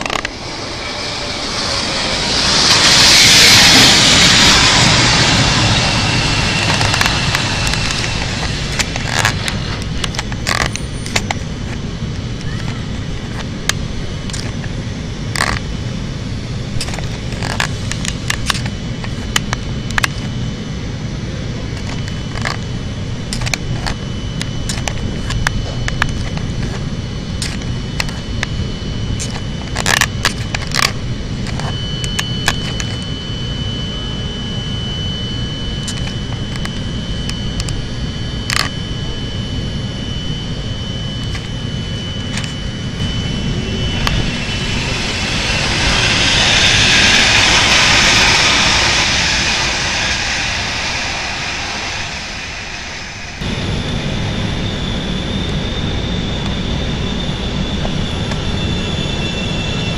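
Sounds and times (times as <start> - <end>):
steady high tone: 0.0 - 59.9
train low rumble: 0.0 - 59.9.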